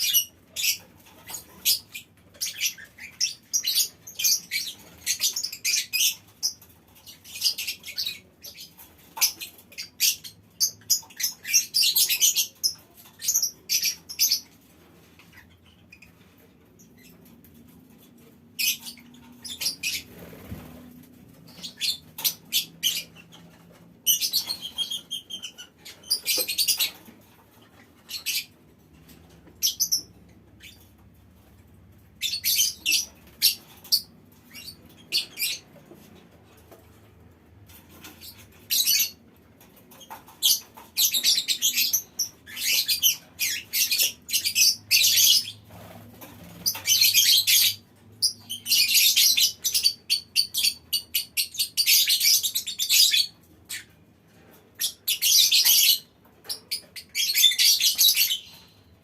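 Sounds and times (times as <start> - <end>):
lovebirds chattering: 0.0 - 37.0, 37.7 - 54.1, 54.7 - 58.9.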